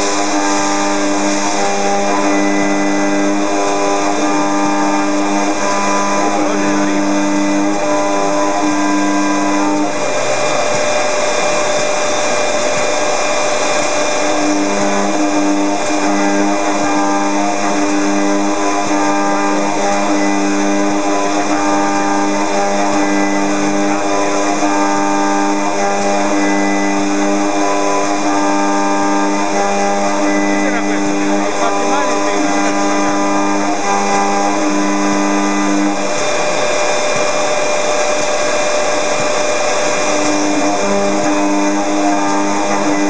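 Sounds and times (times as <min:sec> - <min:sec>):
metal cutting noise: 0:00.0 - 0:43.0
milling spindle whine: 0:00.0 - 0:43.0.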